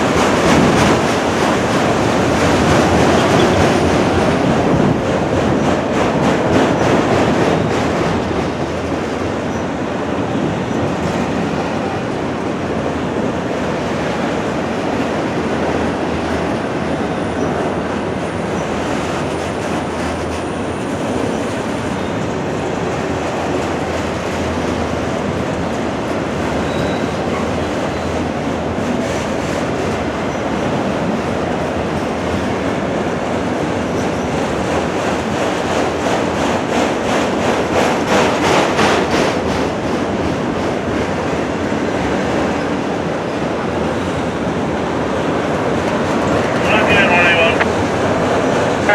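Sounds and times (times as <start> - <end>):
freight train rolling past: 0.0 - 48.9.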